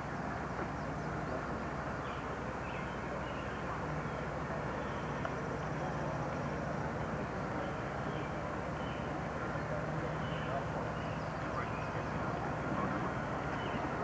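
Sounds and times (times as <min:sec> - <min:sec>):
distant voices: 0:00.0 - 0:14.0.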